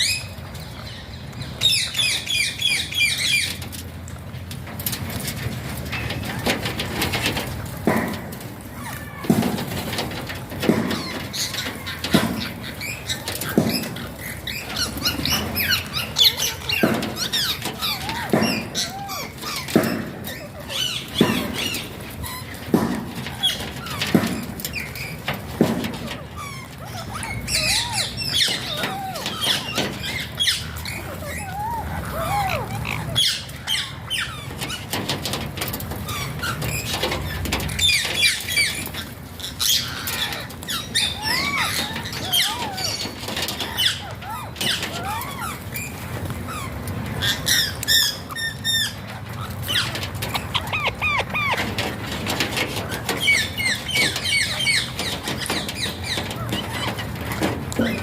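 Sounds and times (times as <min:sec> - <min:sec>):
parakeet chirping and squawking: 0:08.9 - 0:58.0.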